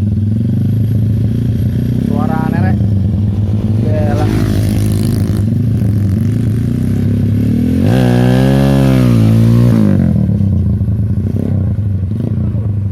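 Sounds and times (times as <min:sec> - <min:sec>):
motorcycle engine idling and revving: 0:00.0 - 0:12.9.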